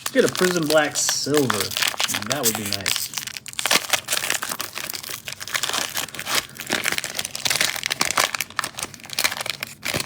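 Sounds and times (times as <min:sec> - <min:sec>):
cellophane wrapper crinkling: 0:00.0 - 0:10.0.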